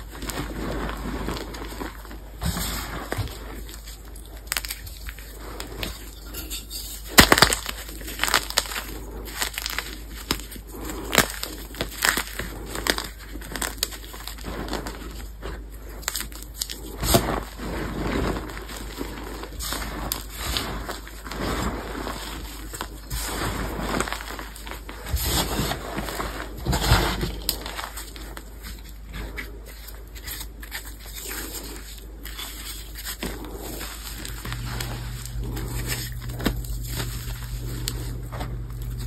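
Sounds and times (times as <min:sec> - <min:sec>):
chalk blocks crunching and snapping: 0:00.0 - 0:39.0
fingers rustling in chalk powder: 0:00.0 - 0:39.0.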